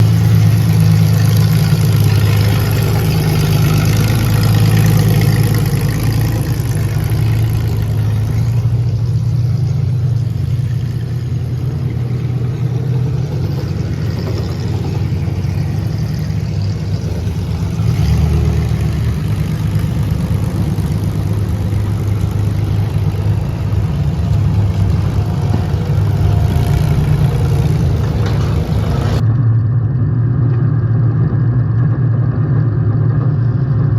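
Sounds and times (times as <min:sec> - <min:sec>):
loud car engine rumbling: 0:00.0 - 0:33.9.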